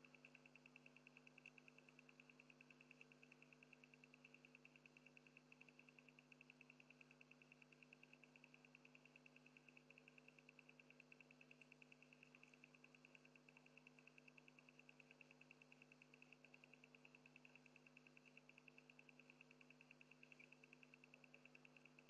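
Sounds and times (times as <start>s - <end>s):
faint electrical hum: 0.0s - 22.0s
faint high-pitched pulsing tone: 0.0s - 22.0s.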